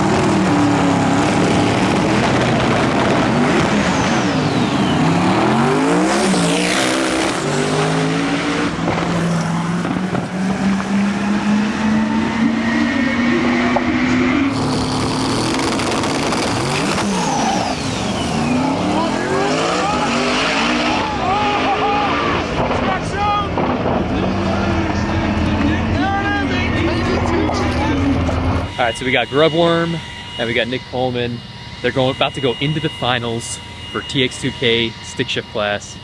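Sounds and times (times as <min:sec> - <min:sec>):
race cars accelerating: 0:00.0 - 0:35.8.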